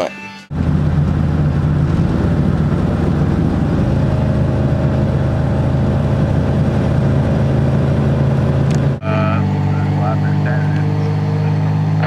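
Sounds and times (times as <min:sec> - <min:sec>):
vehicle engine droning: 0:00.5 - 0:12.0.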